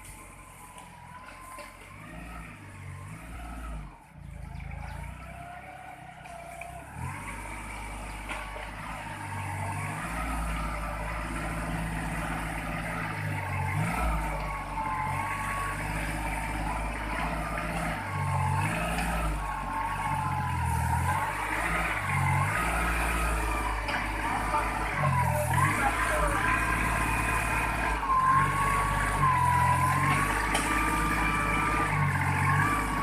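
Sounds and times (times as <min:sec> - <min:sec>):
machine engine running: 0:00.0 - 0:33.0.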